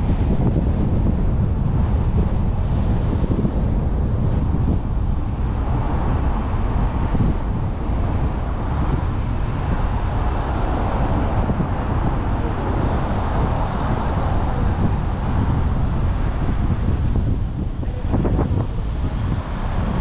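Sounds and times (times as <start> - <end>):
car tyre and engine noise: 0.0 - 20.0.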